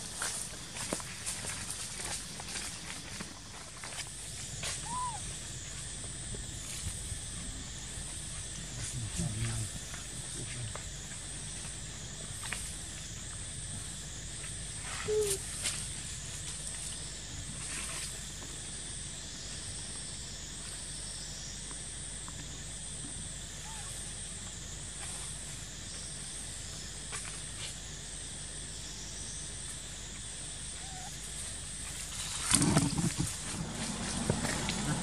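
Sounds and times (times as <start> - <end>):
high-pitched insect drone: 0.0 - 35.0
low outdoor hum: 0.0 - 35.0.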